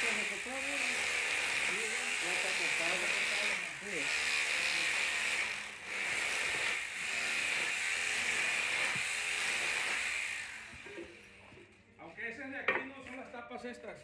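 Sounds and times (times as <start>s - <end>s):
steady machine noise: 0.0s - 11.3s.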